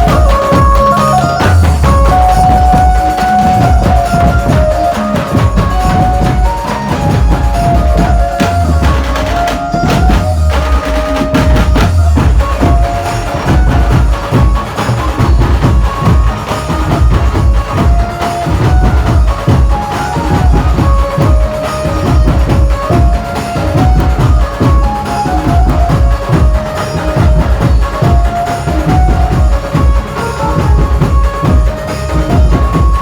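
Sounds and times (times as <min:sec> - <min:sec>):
heavy drums fast rhythm: 0:00.0 - 0:33.0
lead melody of held notes: 0:00.0 - 0:33.0.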